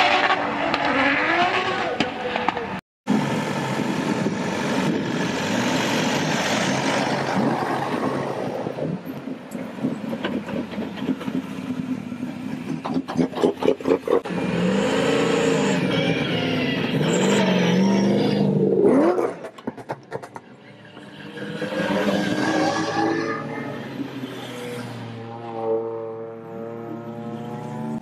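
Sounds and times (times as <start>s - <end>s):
engine revving: 0.0s - 8.1s, 12.8s - 20.0s, 21.0s - 28.0s
car engines running: 0.1s - 25.6s.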